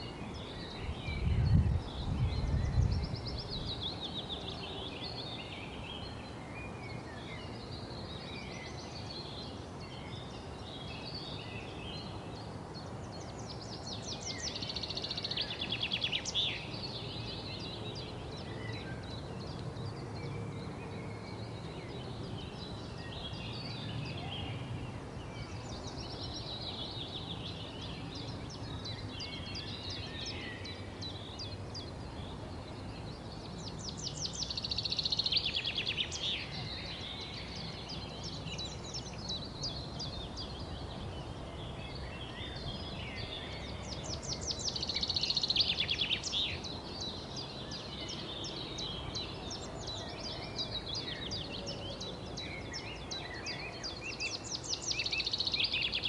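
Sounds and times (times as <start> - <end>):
birds chirping and twittering: 0.0 - 56.0
outdoor background noise: 0.0 - 56.0.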